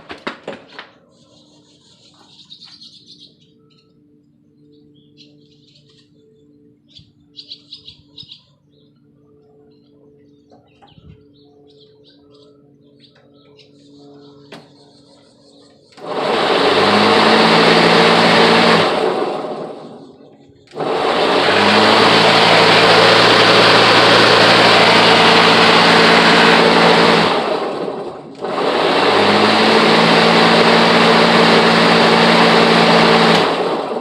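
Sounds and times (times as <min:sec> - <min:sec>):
electric lawnmower motor running: 0:02.3 - 0:34.0.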